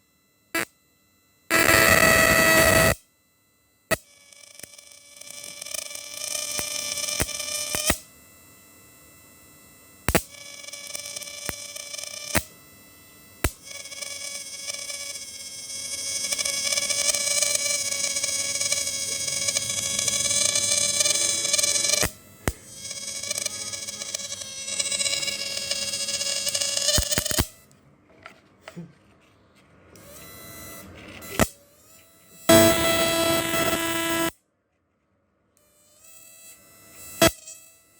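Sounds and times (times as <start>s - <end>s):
inverter buzzing whine: 0.0s - 34.5s, 35.5s - 37.9s.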